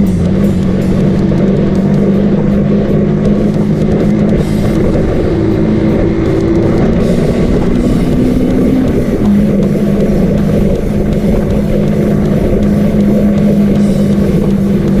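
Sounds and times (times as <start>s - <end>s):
motorcycle engine running: 0.0s - 15.0s
wind noise: 0.0s - 15.0s.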